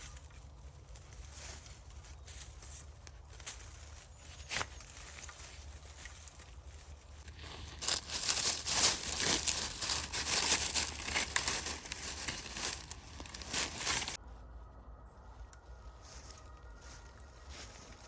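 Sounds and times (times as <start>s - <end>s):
dense crinkling and crumpling: 0.0s - 14.2s, 16.1s - 18.0s.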